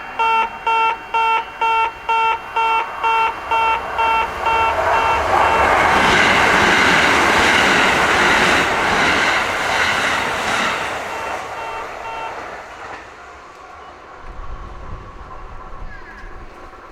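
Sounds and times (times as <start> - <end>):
crossing warning bell chiming: 0.0 - 16.9
train wheels running: 0.0 - 16.9.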